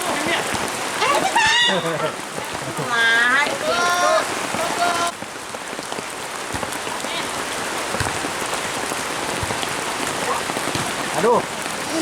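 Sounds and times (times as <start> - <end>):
heavy rain on ground: 0.0 - 12.0.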